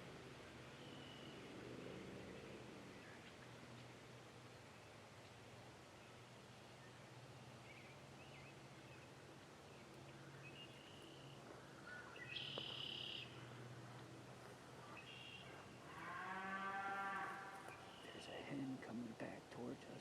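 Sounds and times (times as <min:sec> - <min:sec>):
songbird chirps: 0:00.0 - 0:20.0.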